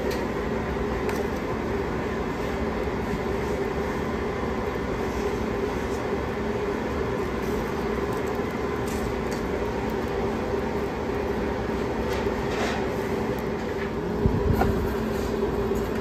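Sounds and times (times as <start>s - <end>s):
oven burner and ventilation drone: 0.0s - 16.0s.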